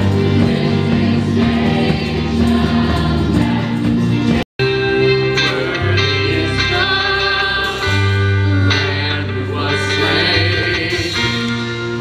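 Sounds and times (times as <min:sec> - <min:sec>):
choir singing worship song: 0:00.0 - 0:04.4, 0:05.4 - 0:11.6
acoustic guitars: 0:00.0 - 0:12.0.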